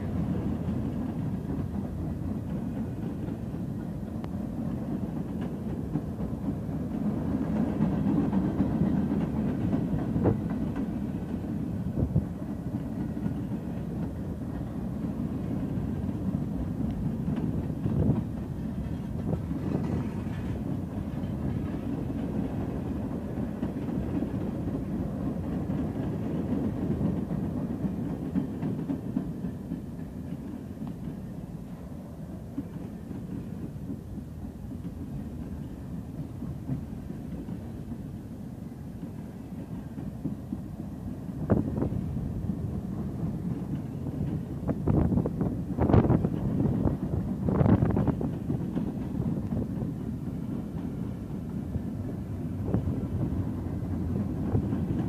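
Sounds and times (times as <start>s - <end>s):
clanks between train cars: 0.0s - 55.0s
train wheels rumbling on rails: 0.0s - 55.0s.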